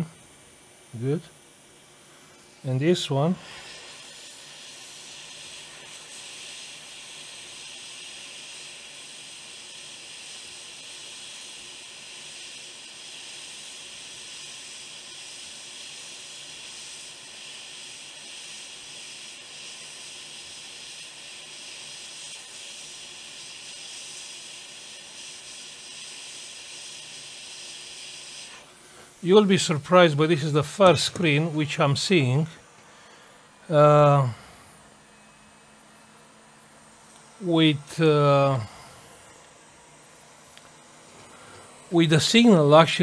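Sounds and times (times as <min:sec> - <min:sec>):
hot air station hissing: 0:00.0 - 0:43.0.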